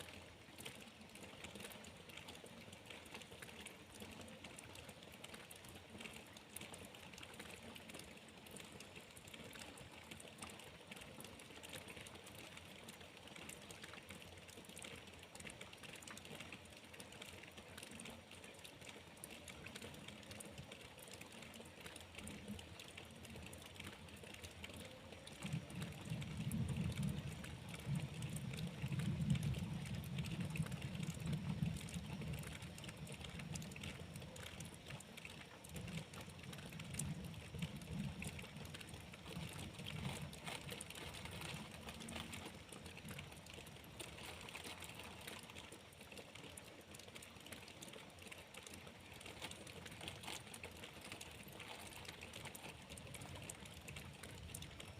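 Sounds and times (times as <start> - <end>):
rain pattering and dripping: 0.0 - 54.9.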